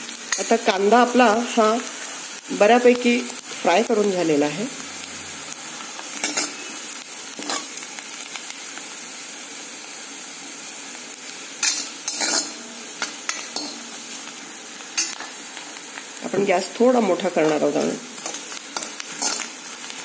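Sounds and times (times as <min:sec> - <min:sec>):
onion sizzling in hot oil: 0:00.0 - 0:20.0.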